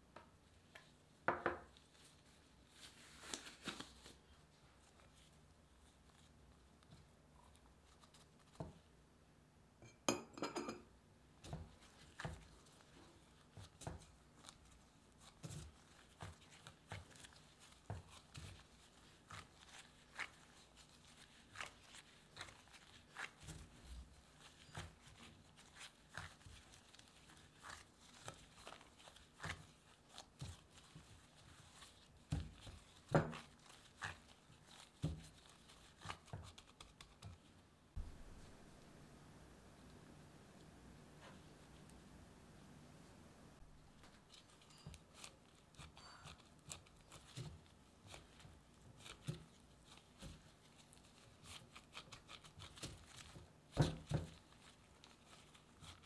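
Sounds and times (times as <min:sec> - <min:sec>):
dough squishing and knocking in bowl: 0:00.0 - 0:09.1, 0:09.8 - 0:39.9, 0:43.6 - 0:56.0.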